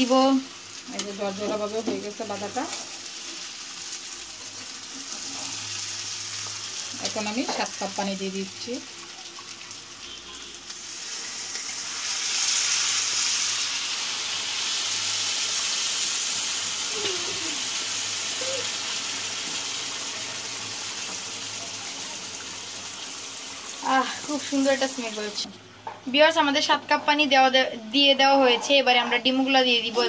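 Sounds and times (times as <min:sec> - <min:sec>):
water sizzling in hot pan: 0:00.0 - 0:25.5.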